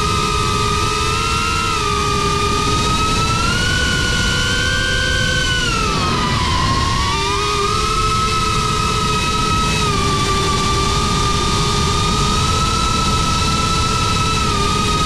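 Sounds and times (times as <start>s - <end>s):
drone propellers whining: 0.0s - 15.0s
low rumbling noise: 0.0s - 15.0s.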